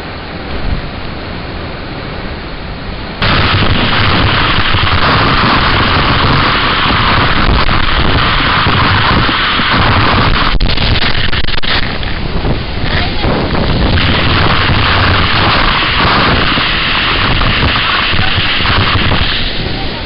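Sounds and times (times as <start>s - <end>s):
sharp crackles: 3.2s - 20.0s
waterfall spray roaring on microphone: 3.2s - 20.0s.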